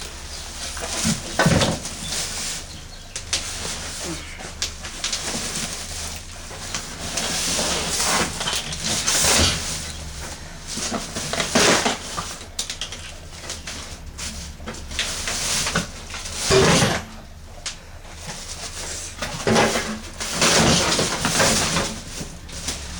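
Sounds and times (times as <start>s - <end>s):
rustling packing material: 0.0s - 22.9s.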